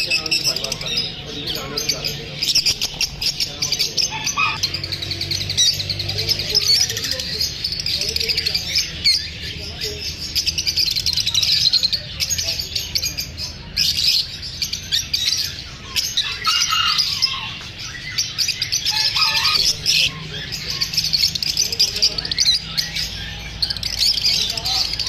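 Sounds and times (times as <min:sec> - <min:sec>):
lovebirds chirping and squeaking: 0:00.0 - 0:25.0.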